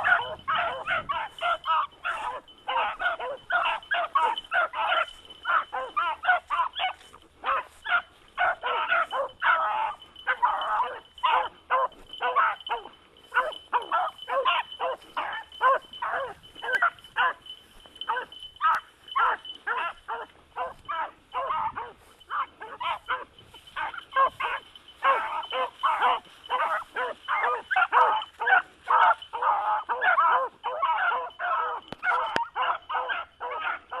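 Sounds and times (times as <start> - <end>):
dogs barking: 0.0 - 34.0.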